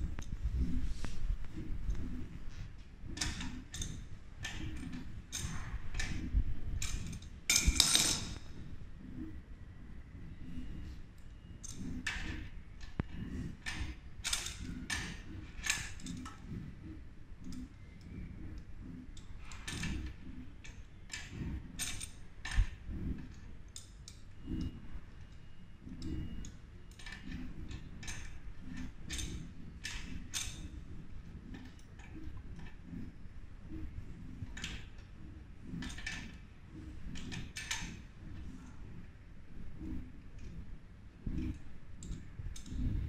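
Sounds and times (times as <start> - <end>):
low handling noise: 0.0 - 43.0.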